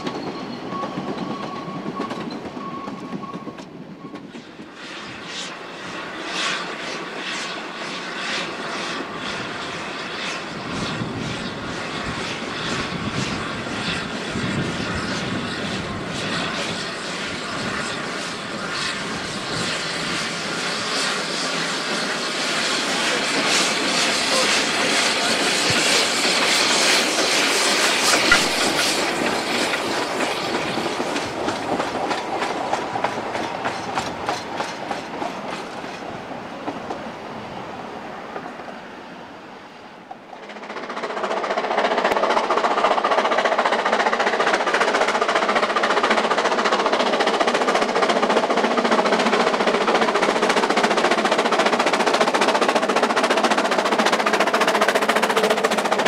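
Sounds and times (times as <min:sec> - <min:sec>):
steam locomotive exhaust beats: 0:00.0 - 0:37.0, 0:40.2 - 0:56.0
steam train running noise: 0:00.0 - 0:56.0.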